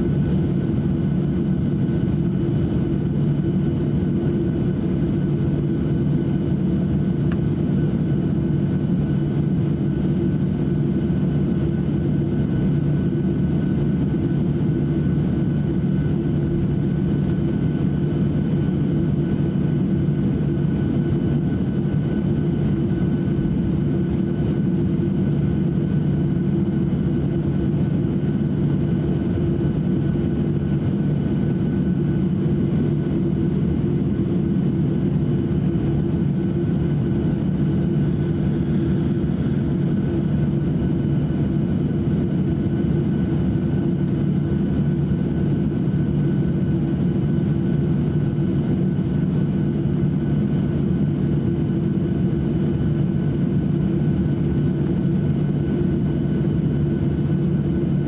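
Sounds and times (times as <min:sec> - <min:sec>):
jet engines droning: 0:00.0 - 0:58.0
thin steady whine: 0:00.0 - 0:58.0.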